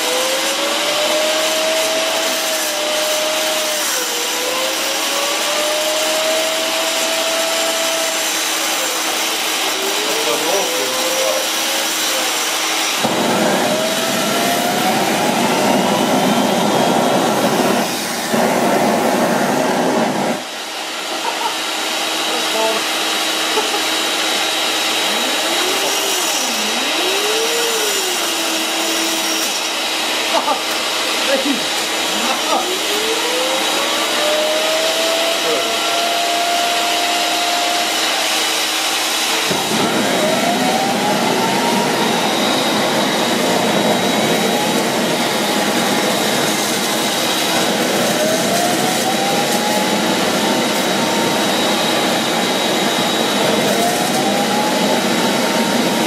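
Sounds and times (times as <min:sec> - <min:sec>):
turbine whistle gliding in pitch: 0:00.0 - 0:20.6, 0:24.6 - 0:29.6, 0:32.8 - 0:56.0
jet engine air and flame rush: 0:00.0 - 0:56.0
motor drone: 0:00.0 - 0:56.0.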